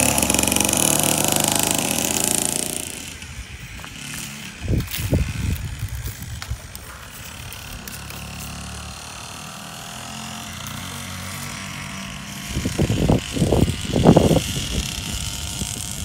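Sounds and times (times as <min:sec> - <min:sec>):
dirt bike engine running: 0:00.0 - 0:16.0
loud uneven low bursts: 0:00.0 - 0:16.0.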